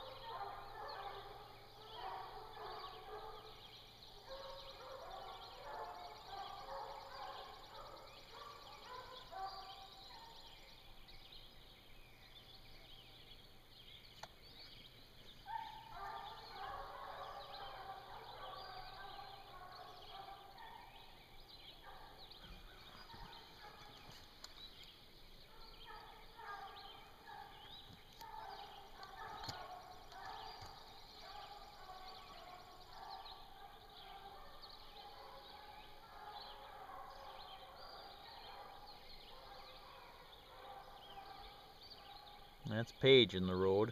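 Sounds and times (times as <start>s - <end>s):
hounds baying: 0.0s - 10.5s, 15.4s - 24.6s, 25.5s - 42.7s
songbirds chirping: 0.0s - 43.9s.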